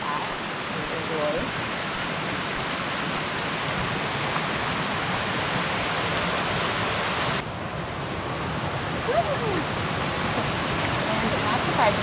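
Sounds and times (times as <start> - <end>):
water cascading into pool: 0.0 - 7.4, 8.8 - 12.0.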